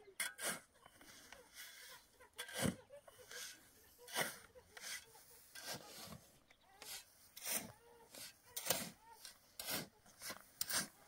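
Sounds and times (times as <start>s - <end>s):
rasping scraping strokes: 0.0s - 11.0s.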